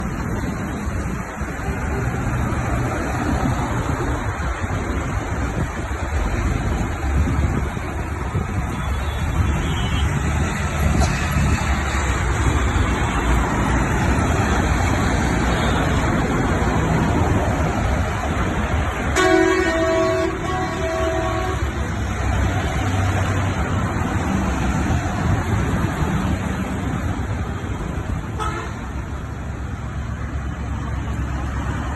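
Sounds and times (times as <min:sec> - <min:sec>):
road traffic noise: 0:00.0 - 0:31.9
truck engine rumbling: 0:00.0 - 0:31.9.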